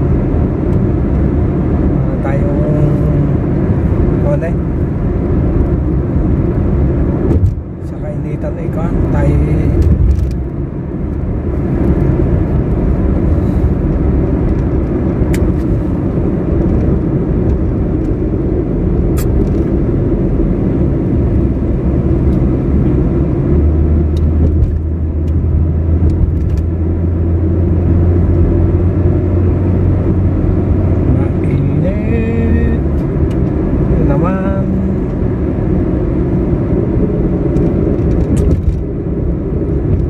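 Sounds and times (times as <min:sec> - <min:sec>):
car engine and road rumble: 0:00.0 - 0:40.0
deep steady hum: 0:00.0 - 0:40.0.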